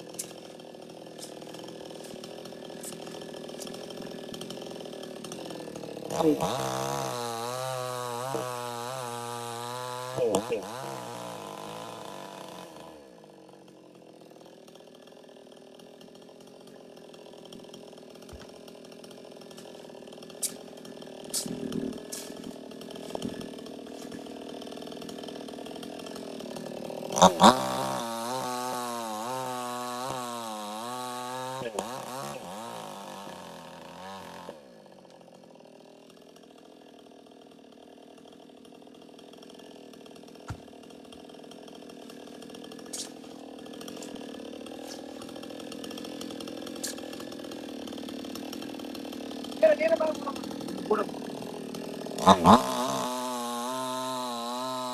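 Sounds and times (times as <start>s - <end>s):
chainsaw engine revving: 0.0s - 54.9s.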